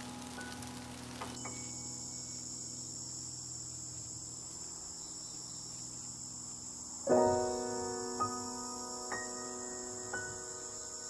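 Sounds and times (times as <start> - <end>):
crickets trilling: 0.0 - 11.0
soft rain-like hiss: 0.0 - 11.0.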